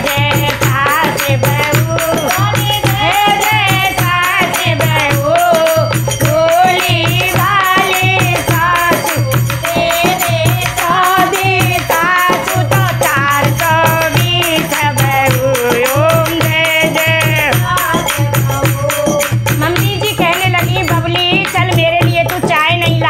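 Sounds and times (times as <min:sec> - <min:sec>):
metallic hand percussion clinking: 0:00.0 - 0:23.0
women singing folk song: 0:00.0 - 0:23.0.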